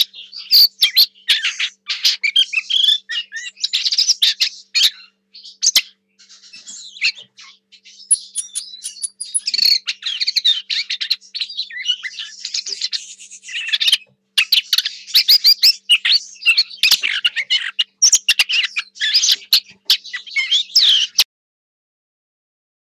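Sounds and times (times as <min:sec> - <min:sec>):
bird singing a scratchy warble: 0:00.0 - 0:21.3.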